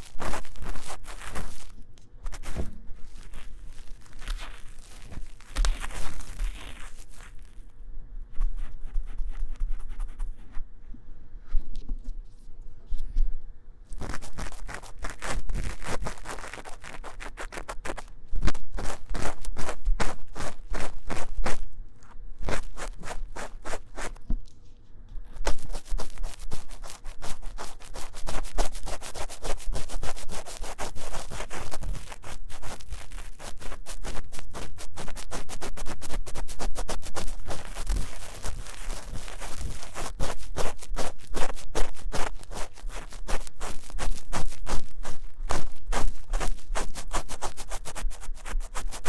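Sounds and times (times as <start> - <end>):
scratching on microphone: 0.0 - 7.7, 8.3 - 10.6, 13.9 - 21.7, 22.4 - 49.0.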